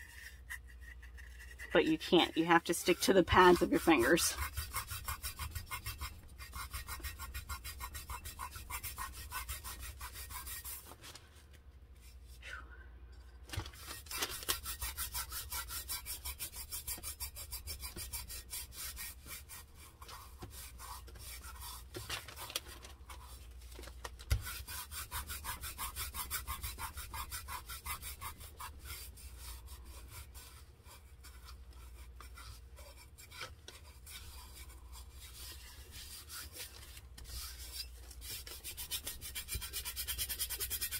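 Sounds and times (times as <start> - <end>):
gloved fingertips rubbing glitter: 0.0 - 11.1, 13.8 - 40.9.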